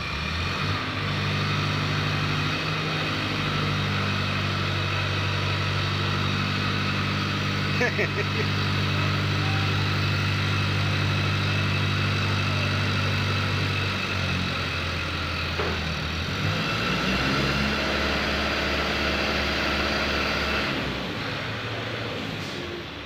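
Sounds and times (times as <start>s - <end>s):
crane diesel engine running: 0.0s - 23.0s.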